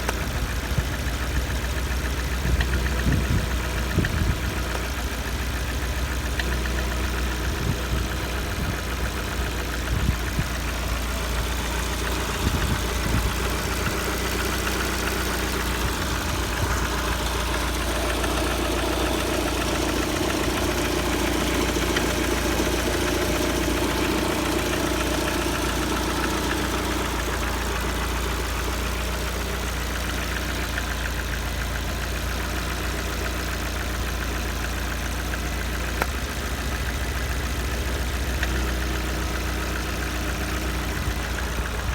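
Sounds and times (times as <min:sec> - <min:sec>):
car engine idling with knock: 0:00.0 - 0:41.9.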